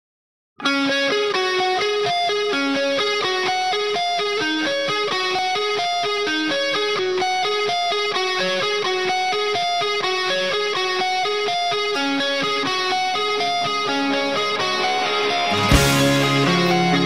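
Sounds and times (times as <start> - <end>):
guitar picking fast notes: 0.6 - 17.0.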